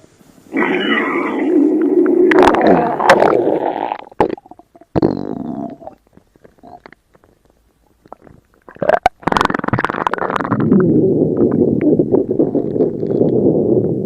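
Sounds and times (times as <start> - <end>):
stomach growling and gurgling: 0.5 - 14.0.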